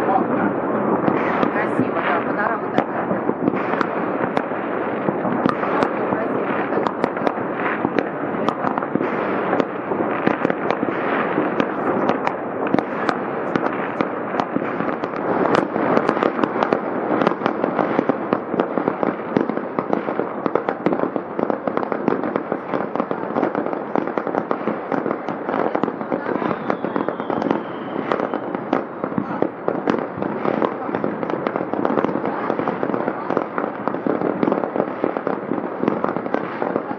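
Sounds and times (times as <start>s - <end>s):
fireworks bangs and crackling: 0.0s - 36.9s
sharp firecracker pops: 0.0s - 36.9s.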